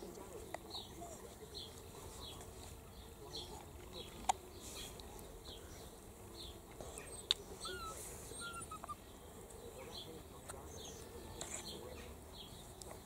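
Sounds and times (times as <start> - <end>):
bird chirping: 0.5 - 13.0.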